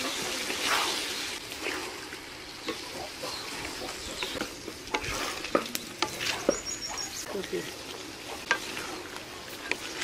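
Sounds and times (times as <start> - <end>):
vegetables sizzling in oil: 0.0 - 10.0
wooden spatula scraping pot: 0.4 - 10.0.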